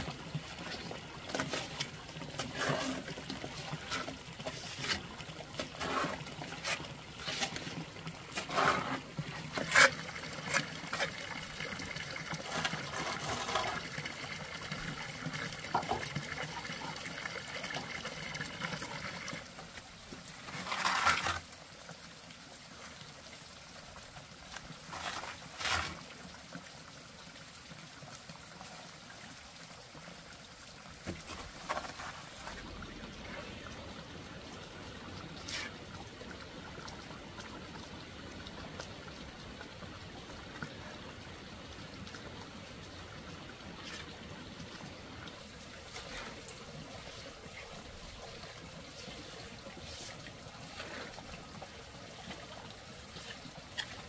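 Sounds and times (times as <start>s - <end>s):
water trickling and pouring: 0.0s - 54.0s.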